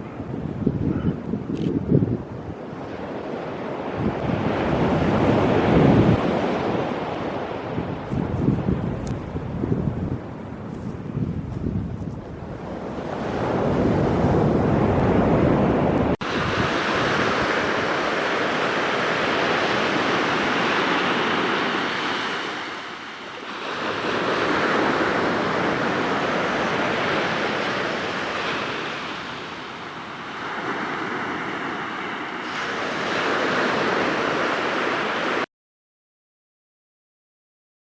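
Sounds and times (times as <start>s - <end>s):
surf breaking on pebble shore: 2.8s - 9.4s, 10.9s - 35.4s.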